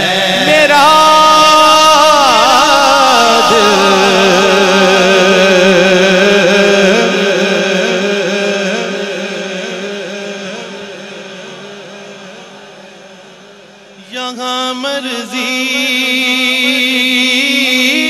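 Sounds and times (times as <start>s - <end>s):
man singing a long ornamented note: 0.0s - 18.0s.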